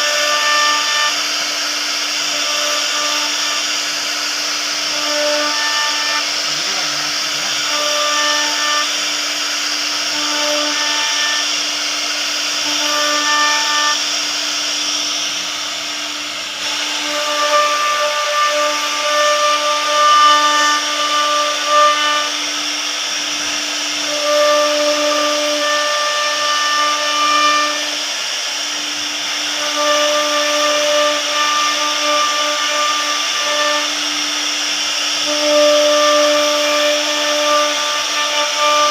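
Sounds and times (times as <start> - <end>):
axis motors whining: 0.0 - 38.9
router spindle cutting hiss: 0.0 - 38.9.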